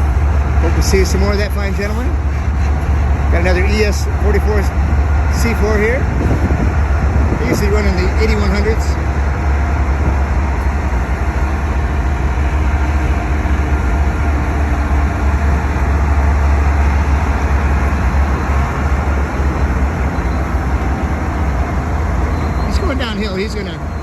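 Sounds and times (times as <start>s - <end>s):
freight train rumbling: 0.0s - 24.0s.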